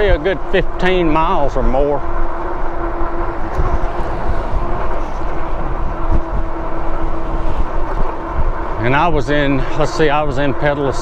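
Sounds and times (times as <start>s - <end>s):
electric bike motor hum: 0.0s - 11.0s
wind buffeting microphone: 0.0s - 11.0s.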